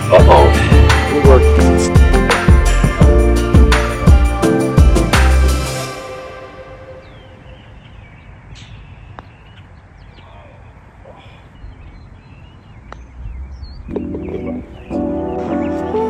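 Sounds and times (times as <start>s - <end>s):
birds chirping: 0.0s - 4.4s, 6.4s - 16.0s.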